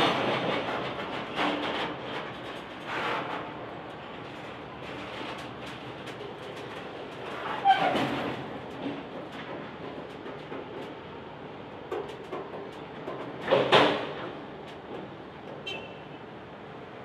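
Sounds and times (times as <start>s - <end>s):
train wagons rumbling: 0.0s - 17.0s.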